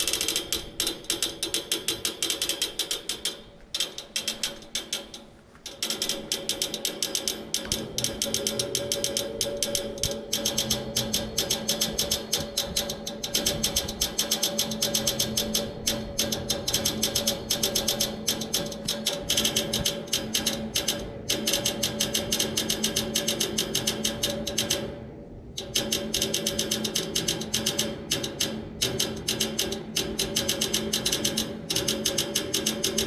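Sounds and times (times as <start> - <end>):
air conditioner clicking: 0.0 - 33.0
steady hum: 3.1 - 31.8.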